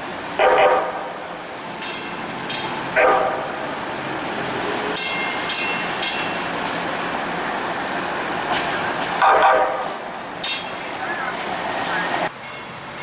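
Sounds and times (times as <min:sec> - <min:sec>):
light rail train rumble: 0:00.0 - 0:13.0.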